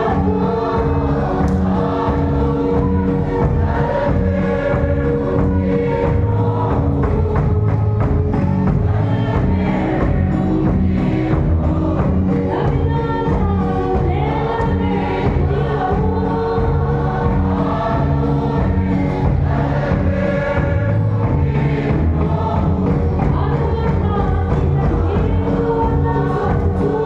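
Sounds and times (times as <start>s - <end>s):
congregation singing a hymn: 0.0s - 13.3s, 13.9s - 23.4s
large drum beating: 0.0s - 26.8s.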